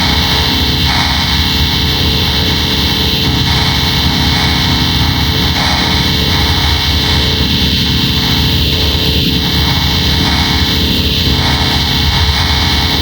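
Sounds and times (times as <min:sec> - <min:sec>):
distorted buzzing drone: 0:00.0 - 0:13.0.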